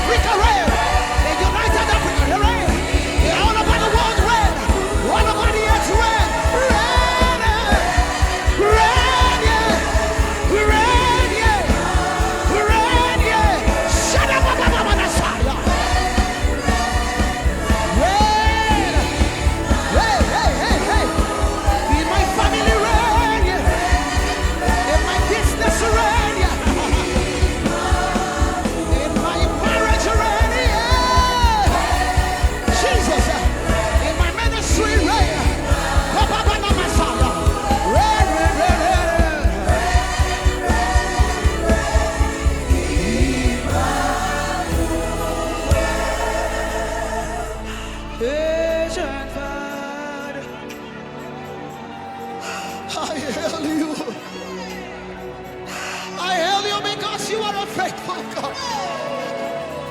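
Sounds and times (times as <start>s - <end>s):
fast steady drum beat: 0.0s - 48.4s
gospel singing: 0.0s - 59.9s.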